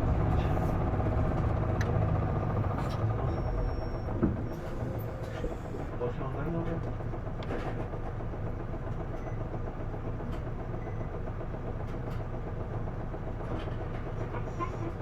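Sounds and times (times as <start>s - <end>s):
bus diesel engine drone: 0.0s - 9.0s, 10.8s - 15.0s.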